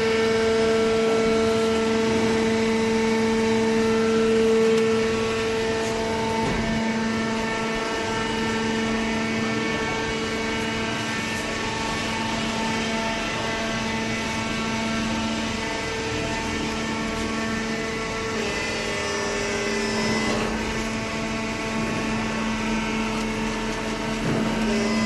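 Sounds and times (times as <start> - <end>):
electric motor and pump humming: 0.0 - 25.0.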